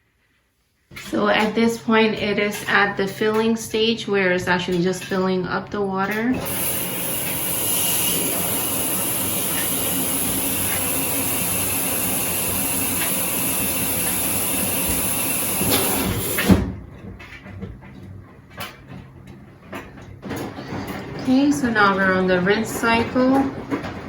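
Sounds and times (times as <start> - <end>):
washing machine filling with water: 0.9 - 17.4, 18.6 - 24.0.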